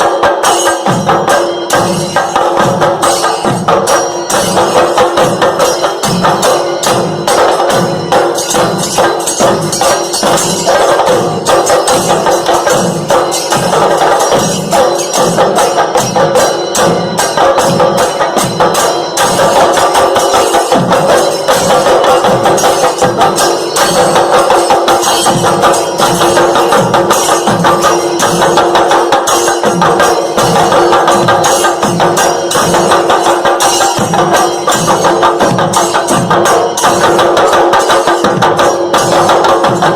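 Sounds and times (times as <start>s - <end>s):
percussion beat: 0.0s - 39.9s.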